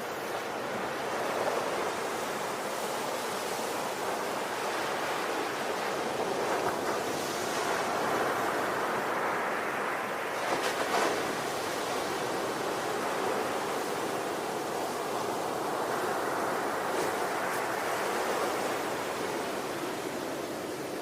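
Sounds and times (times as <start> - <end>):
ocean waves rushing on shore: 0.0 - 21.0.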